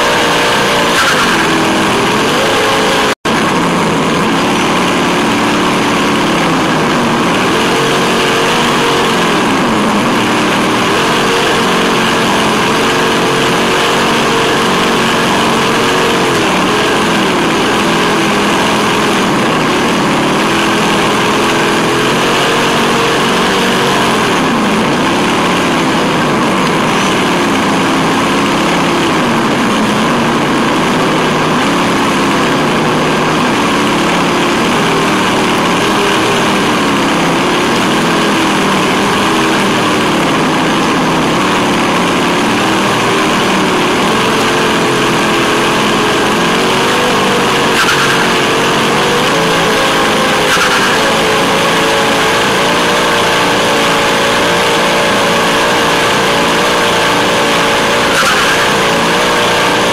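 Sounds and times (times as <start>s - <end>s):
electric motor and gears whining: 0.0s - 59.9s.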